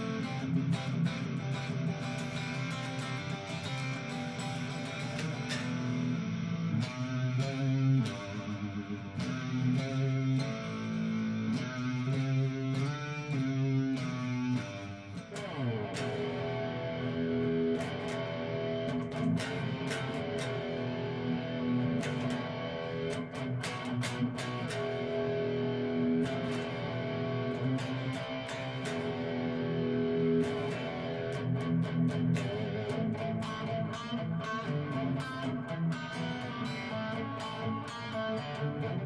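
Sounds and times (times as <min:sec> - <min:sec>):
electric guitar through an amp: 0:00.0 - 0:39.0.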